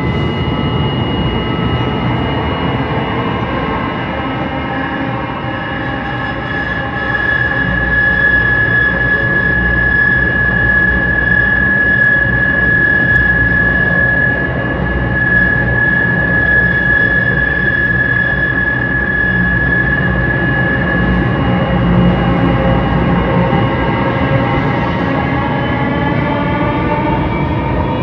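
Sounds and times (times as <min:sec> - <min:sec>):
high-pitched whine: 0:00.0 - 0:28.0
light rail train rumble: 0:00.0 - 0:28.0.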